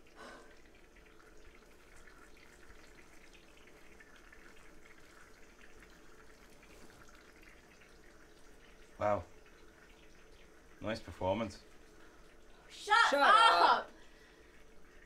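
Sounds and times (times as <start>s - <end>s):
faint water trickle: 0.0s - 15.0s.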